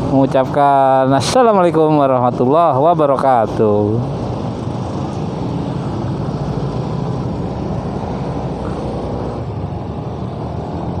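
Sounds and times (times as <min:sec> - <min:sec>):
motorcycle engine drone: 0:00.0 - 0:11.0
wind and road noise: 0:00.0 - 0:11.0.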